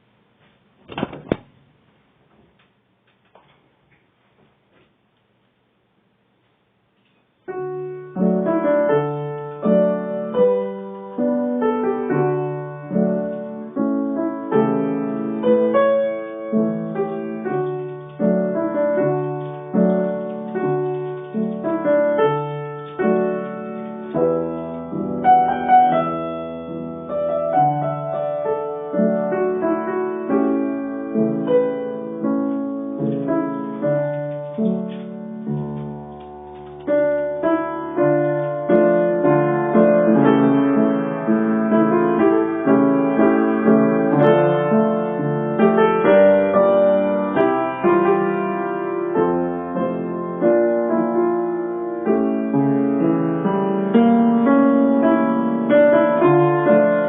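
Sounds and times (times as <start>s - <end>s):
slow solo piano piece: 7.4s - 57.0s.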